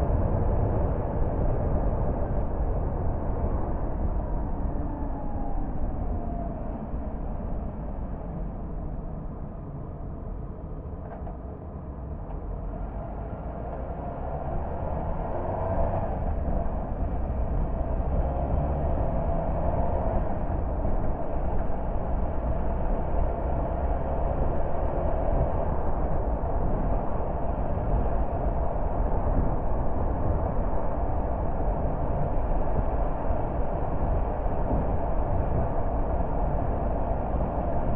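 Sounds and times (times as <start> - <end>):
car engine and tyre noise: 0.0 - 37.9.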